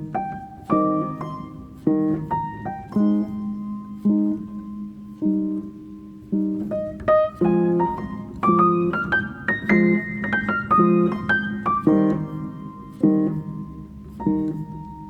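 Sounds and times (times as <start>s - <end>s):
piano chords and melody: 0.0s - 15.0s.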